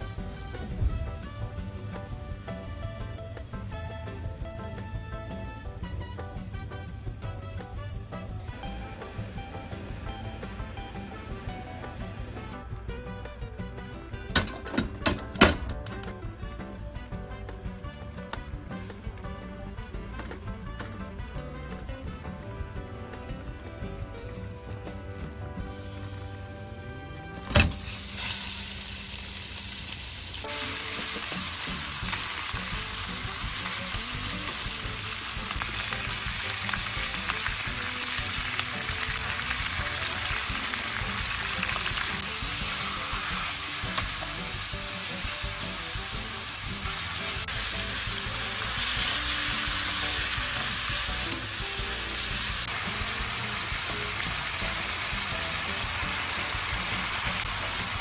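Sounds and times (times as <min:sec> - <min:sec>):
pork sizzling in a wok: 0:00.0 - 0:24.4, 0:27.6 - 0:58.0.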